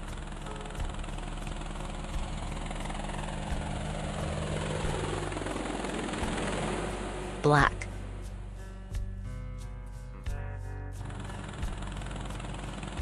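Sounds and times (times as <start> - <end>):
helicopter rotor whirr: 0.0 - 8.6, 11.0 - 13.0.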